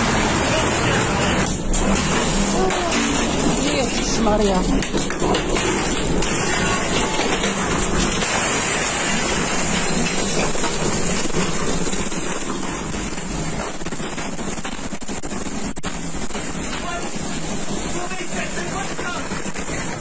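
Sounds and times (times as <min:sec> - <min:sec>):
rain beating against window glass: 0:00.0 - 0:20.0.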